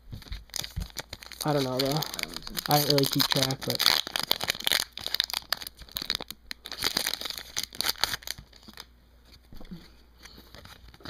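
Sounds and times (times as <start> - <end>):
card pack wrapper crinkling: 0.1 - 8.9, 10.2 - 11.0
handling of cards: 0.1 - 11.0.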